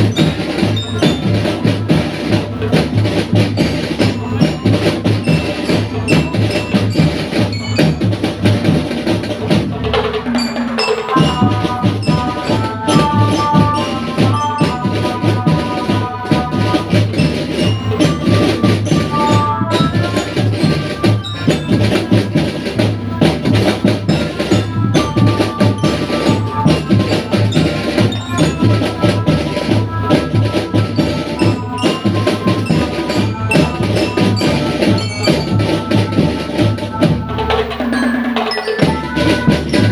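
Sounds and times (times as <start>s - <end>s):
drum band playing: 0.0s - 39.9s
melody line: 3.8s - 8.4s, 10.2s - 39.9s.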